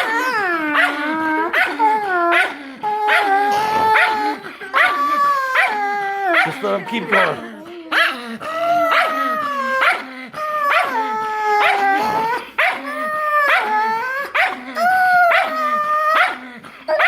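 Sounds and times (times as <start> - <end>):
dog howling yowls: 0.0 - 17.0.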